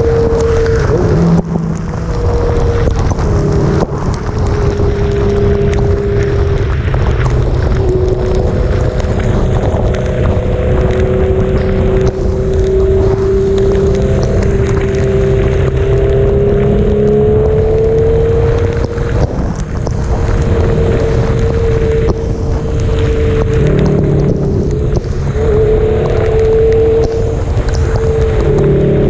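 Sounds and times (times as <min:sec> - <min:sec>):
heavy wind rumble: 0:00.0 - 0:29.0
motorcycle engine cruising: 0:00.0 - 0:29.0.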